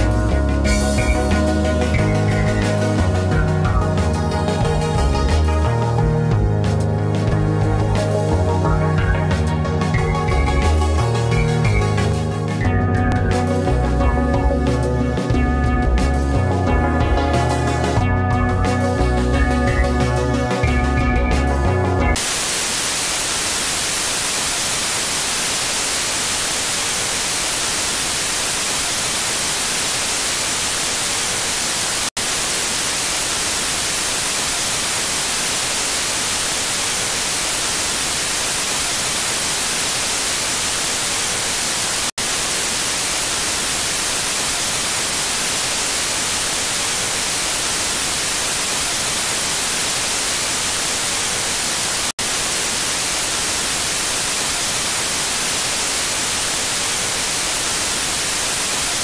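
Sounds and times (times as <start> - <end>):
television static hiss: 0.0 - 18.1, 18.7 - 59.0.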